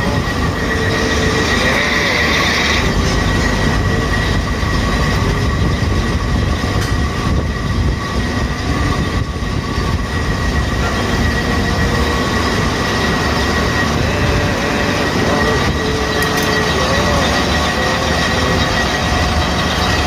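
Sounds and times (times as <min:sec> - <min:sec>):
conveyor belt rumbling: 0:00.0 - 0:20.0
high-pitched whine: 0:00.0 - 0:20.0.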